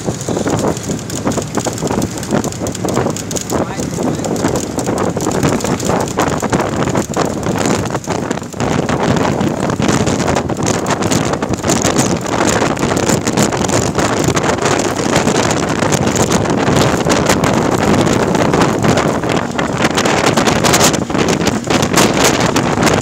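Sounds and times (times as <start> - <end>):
vehicle running noise: 0.0 - 23.0
wind buffeting microphone: 0.0 - 23.0.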